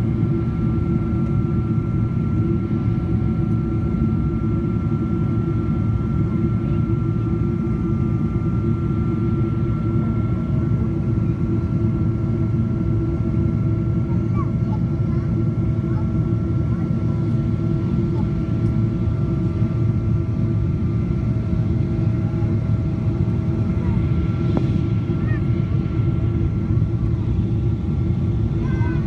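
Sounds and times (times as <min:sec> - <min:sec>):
engine and airflow rumble: 0:00.0 - 0:29.0
turbofan engine whine: 0:00.0 - 0:29.0.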